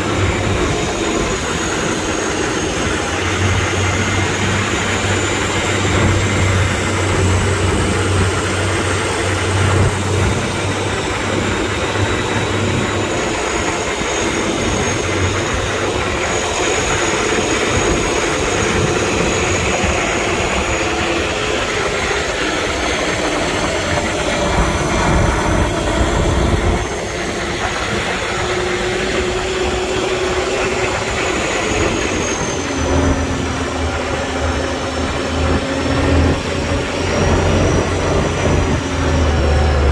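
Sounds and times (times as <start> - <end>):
diesel truck engine: 0.0 - 39.9
high whine: 0.0 - 39.9.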